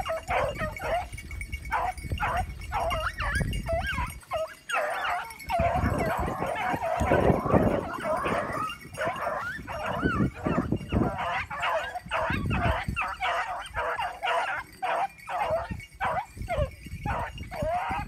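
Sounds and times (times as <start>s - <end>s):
hounds baying: 0.0s - 18.0s.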